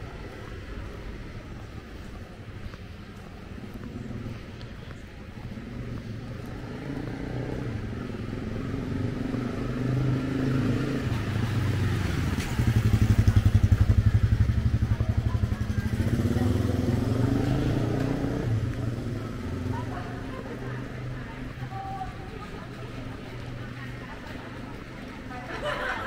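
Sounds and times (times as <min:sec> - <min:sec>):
motorcycle engines passing: 0:00.0 - 0:26.0.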